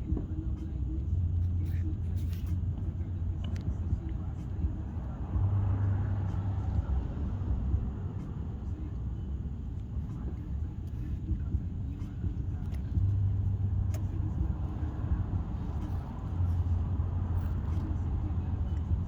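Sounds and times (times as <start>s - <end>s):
deep hum: 0.0s - 19.0s
low steady rumble: 0.0s - 19.0s.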